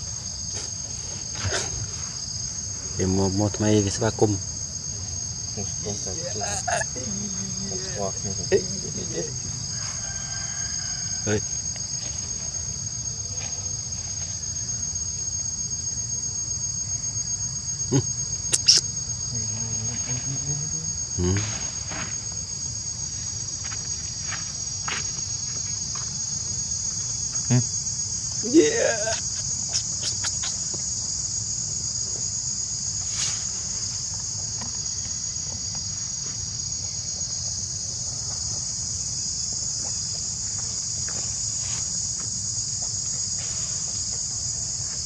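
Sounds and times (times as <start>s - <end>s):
insects chorus: 0.0s - 45.0s.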